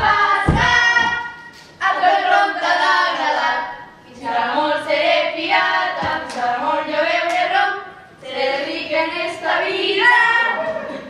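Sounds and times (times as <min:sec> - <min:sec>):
girls singing: 0:00.0 - 0:11.0.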